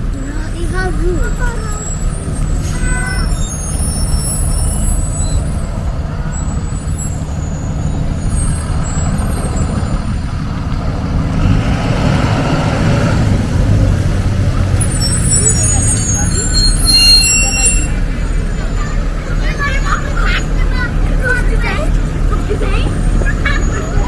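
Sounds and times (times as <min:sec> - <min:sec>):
heavy vehicle rumbling: 0:00.0 - 0:24.0
street traffic: 0:00.0 - 0:24.0.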